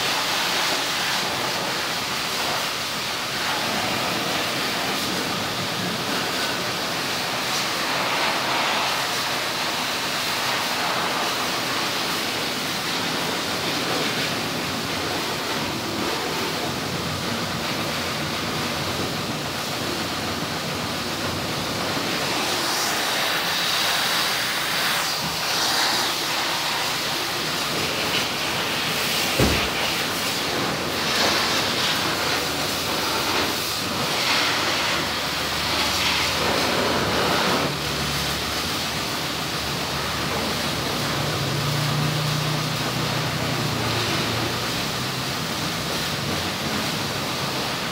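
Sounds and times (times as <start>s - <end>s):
pressure washer spray hissing: 0.0s - 47.9s.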